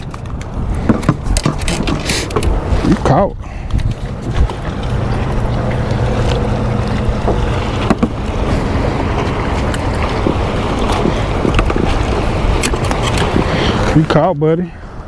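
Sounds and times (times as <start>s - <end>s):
steady low rumble: 0.0s - 15.0s
water lapping against boat hull: 0.0s - 15.0s
wind buffeting microphone: 0.0s - 15.0s.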